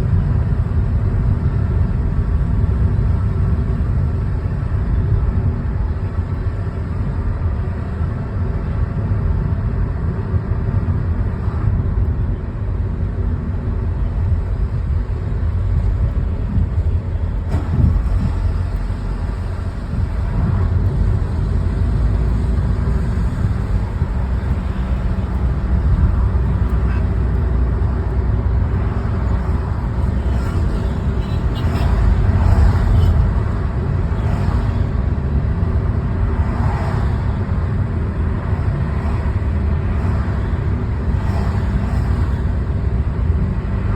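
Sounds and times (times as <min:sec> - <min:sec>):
car driving in traffic: 0:00.0 - 0:43.9.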